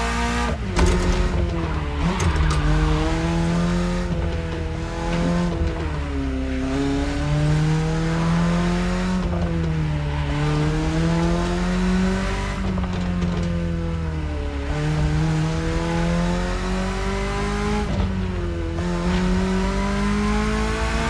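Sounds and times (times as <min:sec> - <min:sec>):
car engine revving while driving: 0:00.0 - 0:21.0.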